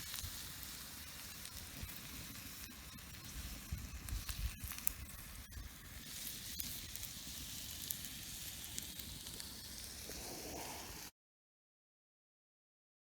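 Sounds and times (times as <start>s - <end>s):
campfire crackling: 0.0s - 11.1s
sharp pops of fire: 0.0s - 11.1s
sizzling hiss: 0.0s - 11.1s.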